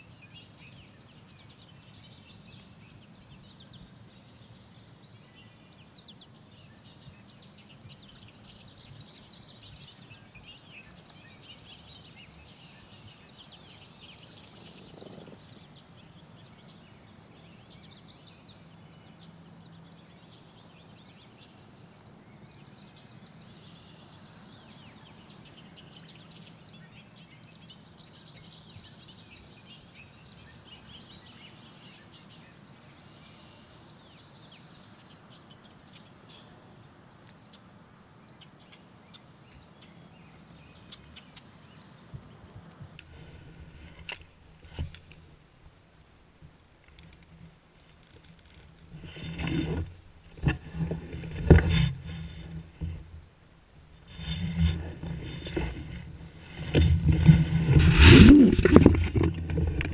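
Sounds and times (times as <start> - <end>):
songbirds singing and chirping: 0.0 - 45.4, 46.4 - 59.9.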